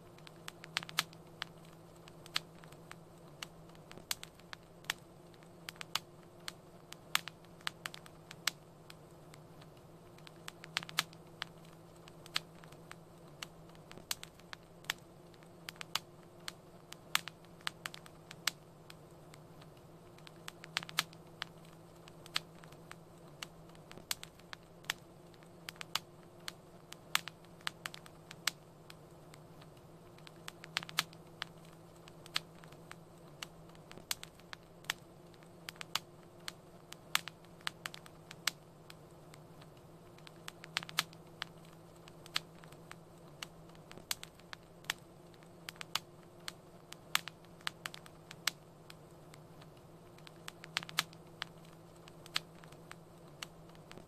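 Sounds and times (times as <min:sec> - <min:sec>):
faint low hum: 0:00.0 - 0:54.0
fire crackling and popping: 0:00.0 - 0:54.0.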